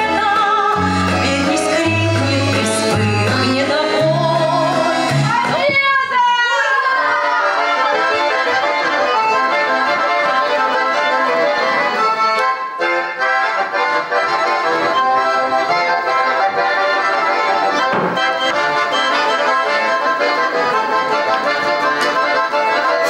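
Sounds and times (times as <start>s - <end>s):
button accordion playing dance tune: 0.0s - 23.0s.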